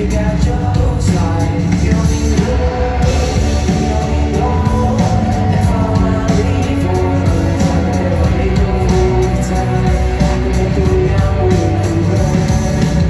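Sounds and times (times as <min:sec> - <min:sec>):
drums: 0:00.0 - 0:13.0
live band music: 0:00.0 - 0:13.0
man singing: 0:00.0 - 0:13.0.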